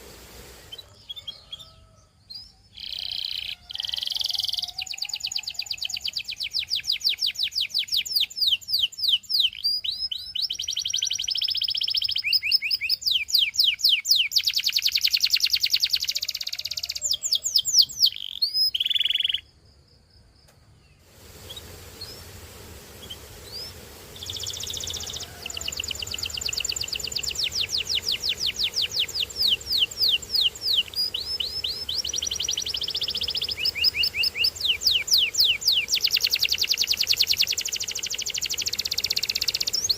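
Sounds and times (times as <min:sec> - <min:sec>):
canary singing trills: 0:00.6 - 0:19.5, 0:23.0 - 0:39.9.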